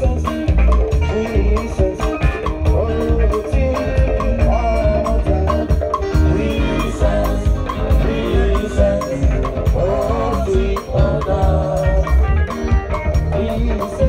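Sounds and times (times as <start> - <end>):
drum kit beat: 0.0 - 14.0
heavy bass: 0.0 - 14.0
live band playing gospel music: 0.0 - 14.0.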